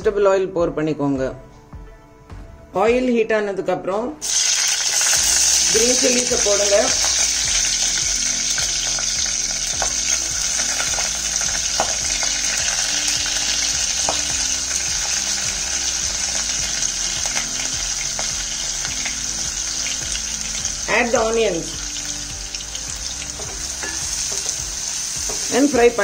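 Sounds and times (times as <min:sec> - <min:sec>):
chillies sizzling in hot oil: 0:04.2 - 0:26.0.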